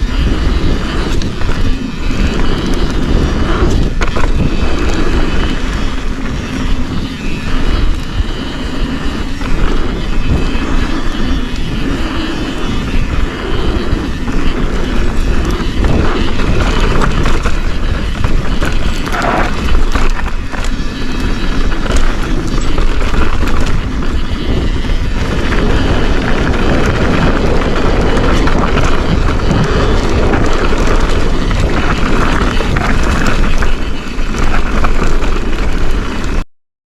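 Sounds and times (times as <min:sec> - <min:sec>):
bike clattering over bumps: 0:00.0 - 0:36.4
tyre noise on dirt: 0:00.0 - 0:36.4
wind buffeting microphone: 0:00.0 - 0:36.4.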